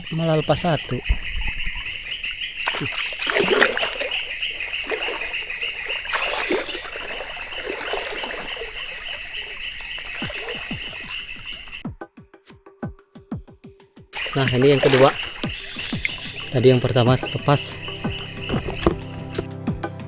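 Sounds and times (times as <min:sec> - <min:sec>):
river water splashing: 0:00.9 - 0:11.8, 0:14.2 - 0:19.5.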